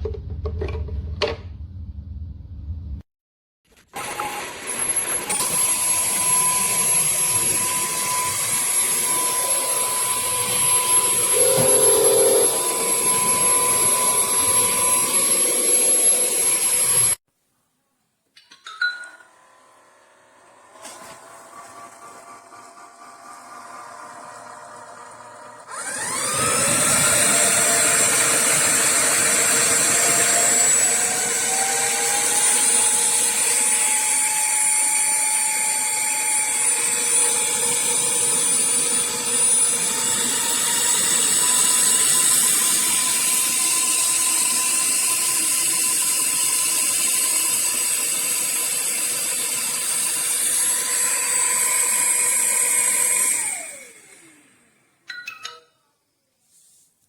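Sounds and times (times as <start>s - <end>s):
floor cleaner motor whine: 3.8s - 17.2s, 19.3s - 55.0s.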